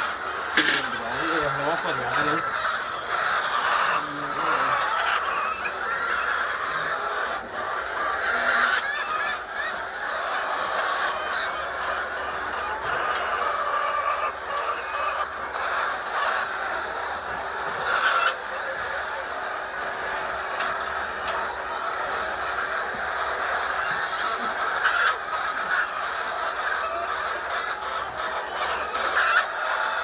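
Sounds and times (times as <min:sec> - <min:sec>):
chickens calling: 0:00.0 - 0:30.0.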